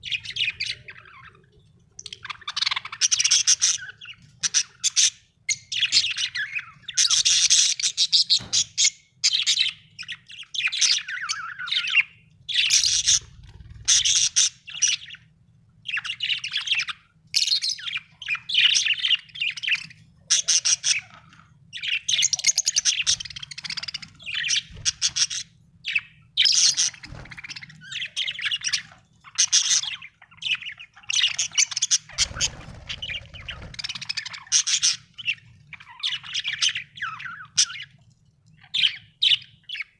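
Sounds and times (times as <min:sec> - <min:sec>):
budgerigar chirping and warbling: 0:02.1 - 0:15.2, 0:15.9 - 0:38.0.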